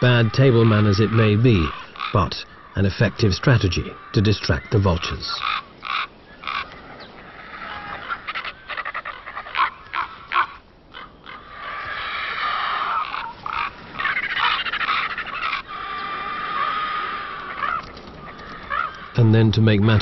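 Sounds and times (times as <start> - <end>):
birds croaking harshly: 0.0 - 20.0.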